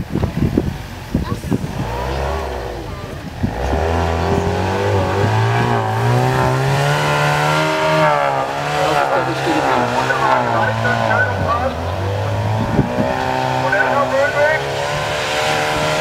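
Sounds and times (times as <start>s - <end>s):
buggy engine revving: 0.0s - 16.0s.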